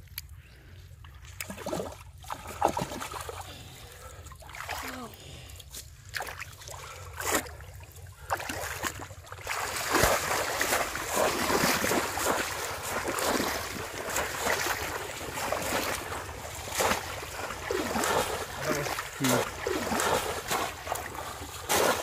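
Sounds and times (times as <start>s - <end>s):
people wading through water: 0.2s - 22.0s
shallow water splashing: 1.0s - 22.0s.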